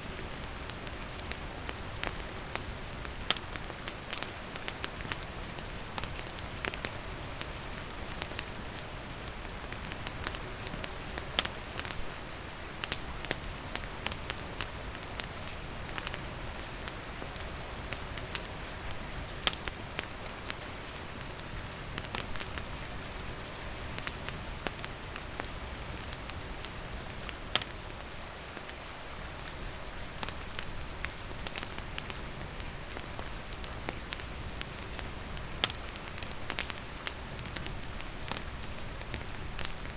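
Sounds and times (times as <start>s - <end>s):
campfire crackling: 0.0s - 39.9s
rain falling: 0.0s - 39.9s.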